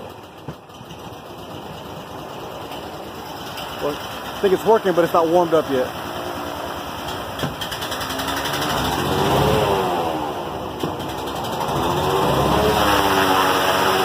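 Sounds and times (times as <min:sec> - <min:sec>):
airboat engine revving: 0:00.0 - 0:14.0.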